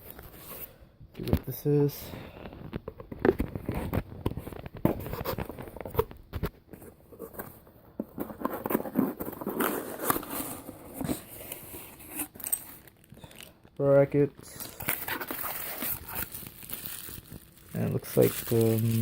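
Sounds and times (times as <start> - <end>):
packaging rustling and crinkling: 2.3 - 19.0.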